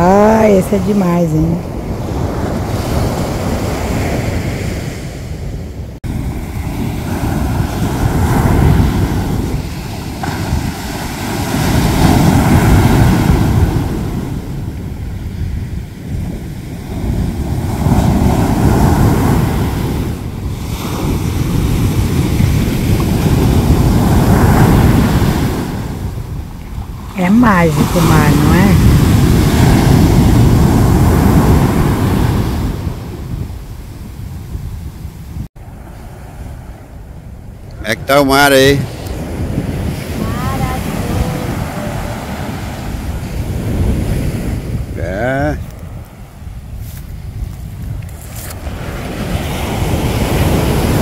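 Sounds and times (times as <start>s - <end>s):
ocean surf breaking: 0.0s - 51.0s
wind buffeting microphone: 0.0s - 51.0s.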